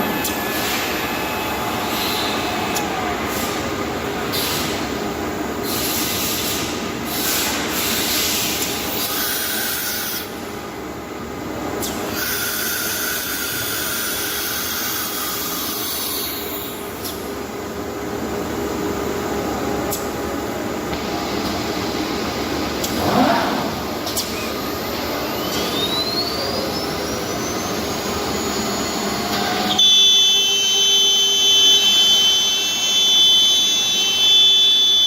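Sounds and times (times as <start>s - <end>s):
machine whine: 0.0s - 35.0s.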